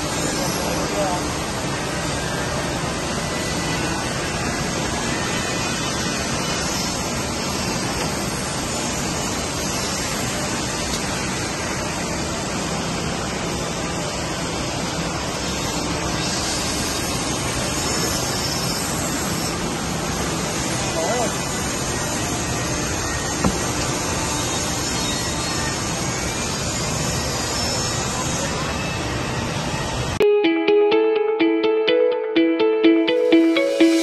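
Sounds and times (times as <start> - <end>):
factory machinery hiss and hum: 0.0 - 30.2.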